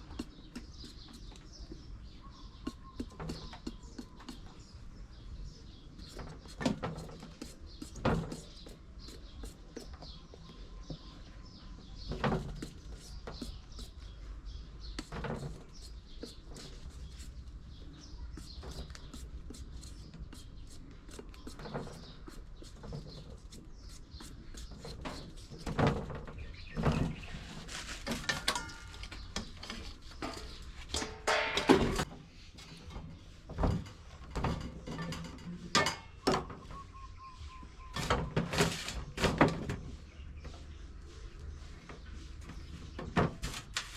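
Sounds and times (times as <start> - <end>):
faint birds chirping: 0.0 - 43.9.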